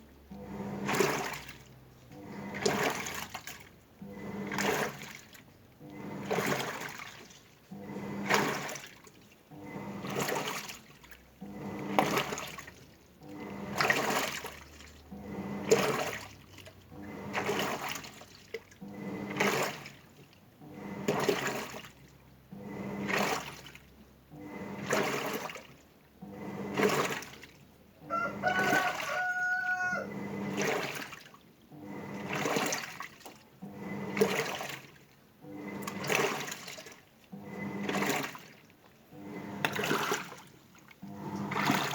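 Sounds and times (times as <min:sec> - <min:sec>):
washing machine churning water: 0:00.0 - 0:41.9
washing machine motor tone: 0:00.0 - 0:41.9.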